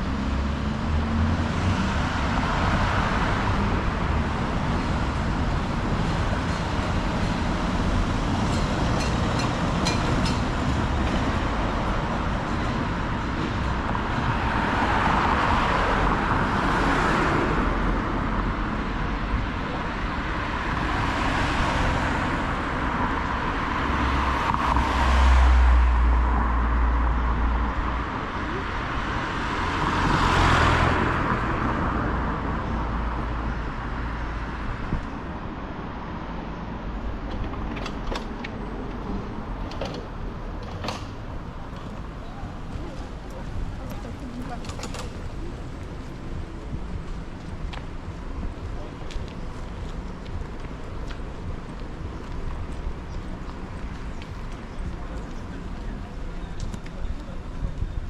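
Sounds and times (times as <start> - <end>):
heavy vehicle rumble: 0.0 - 58.0
street traffic passing: 0.0 - 58.0.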